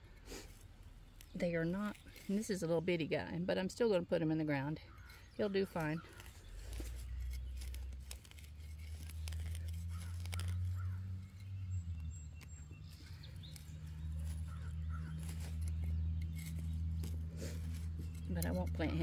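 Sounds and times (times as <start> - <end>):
hands digging in dry soil: 0.0 - 3.2, 4.9 - 19.0.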